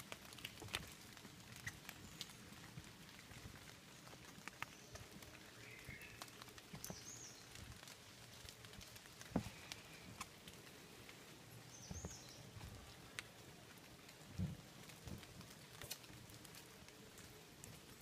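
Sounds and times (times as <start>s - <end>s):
rain dripping: 0.0s - 18.0s.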